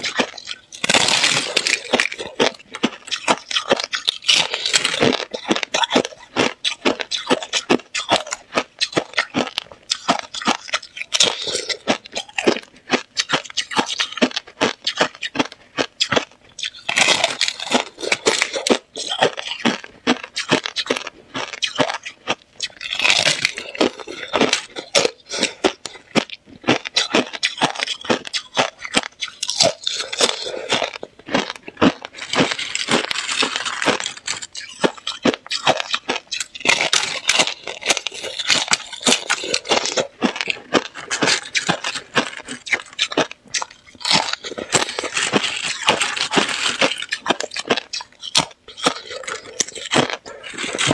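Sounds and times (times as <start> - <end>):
chewing crunchy ice: 0.0 - 50.9.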